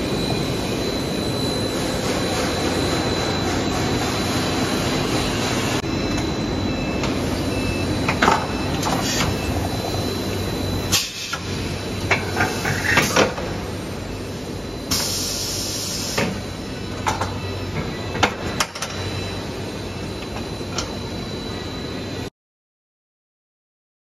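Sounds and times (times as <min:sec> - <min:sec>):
machine humming: 0:00.0 - 0:22.3.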